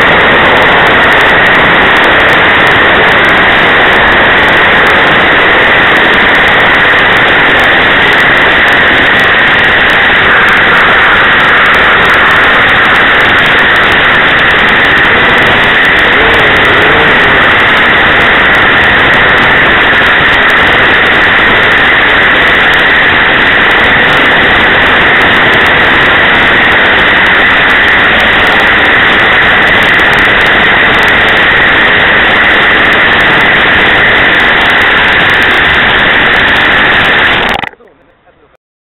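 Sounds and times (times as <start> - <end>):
model plane rotary engine running: 0.0 - 37.7.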